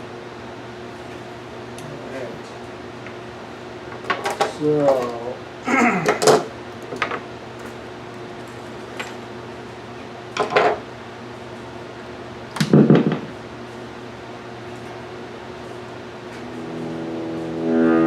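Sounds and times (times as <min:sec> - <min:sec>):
guitar amplifier electrical hum: 0:00.0 - 0:18.0.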